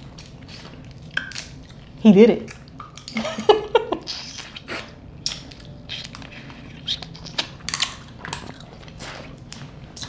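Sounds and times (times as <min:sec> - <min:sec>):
crunching of chewing shellfish: 0:00.0 - 0:10.0.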